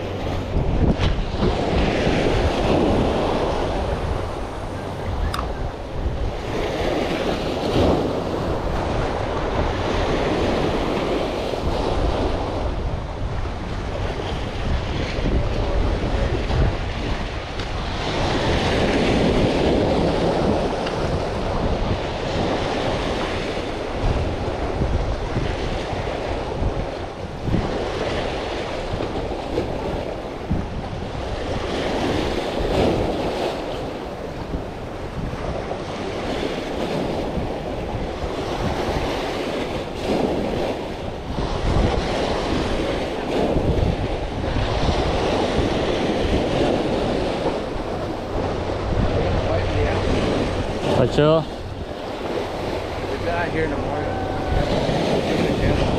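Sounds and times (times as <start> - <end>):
waves splashing against jetty: 0.0 - 55.9
wind rumbling on microphone: 0.0 - 55.9.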